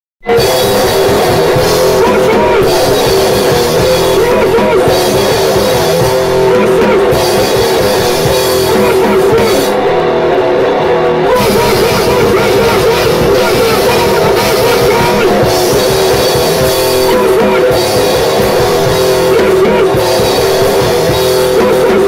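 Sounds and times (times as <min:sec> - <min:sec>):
fast drums: 0:00.2 - 0:22.0
heavily distorted guitar: 0:00.2 - 0:22.0.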